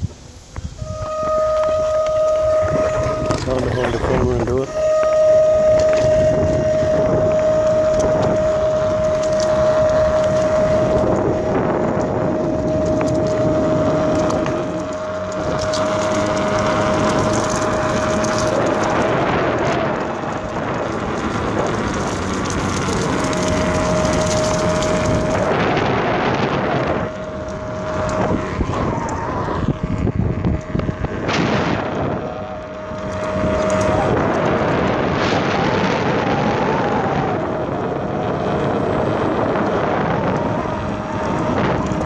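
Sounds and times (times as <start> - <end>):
electric motor whine: 0.0 - 42.0
skateboard wheels rumbling: 0.0 - 42.0
wind on microphone: 0.0 - 42.0.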